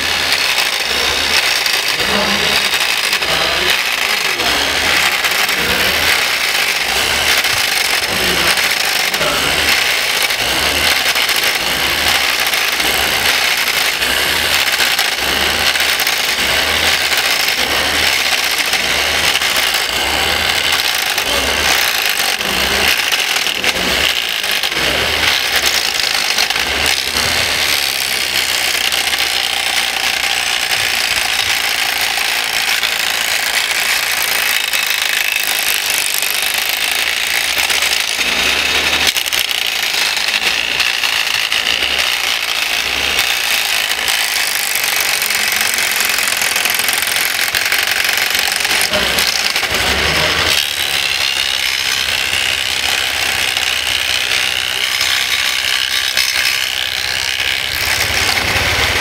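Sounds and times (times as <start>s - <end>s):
wood chipper grinding and rattling: 0.0s - 59.0s.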